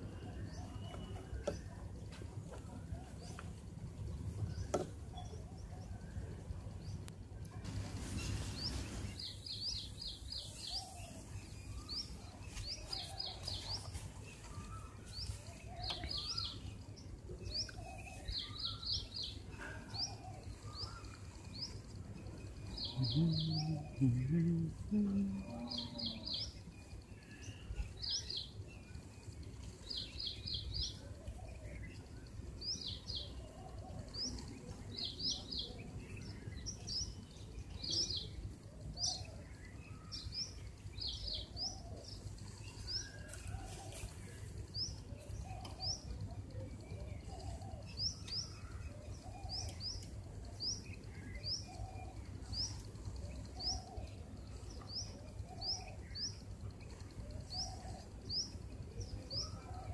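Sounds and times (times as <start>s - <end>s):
low steady hum: 0.0s - 59.9s
small birds chirping: 0.0s - 59.9s.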